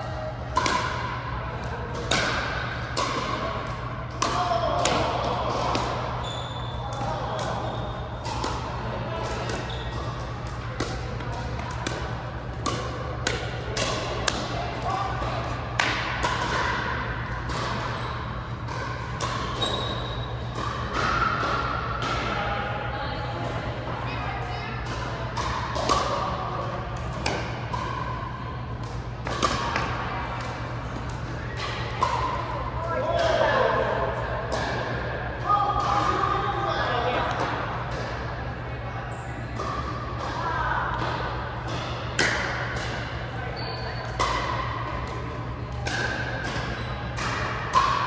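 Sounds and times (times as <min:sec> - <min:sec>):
paddles hitting ball in gym: 0:00.0 - 0:48.0.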